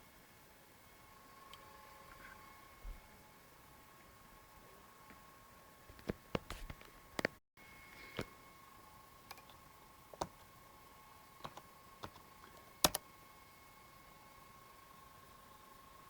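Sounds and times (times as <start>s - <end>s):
faint high whine: 0.0s - 5.8s, 7.6s - 16.0s.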